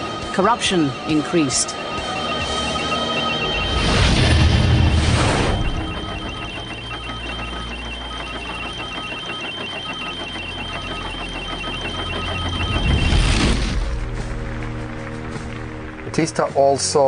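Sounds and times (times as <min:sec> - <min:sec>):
steady high tone: 0:00.0 - 0:13.8
rapid electronic beeping: 0:00.0 - 0:14.0
low hum: 0:00.0 - 0:16.3.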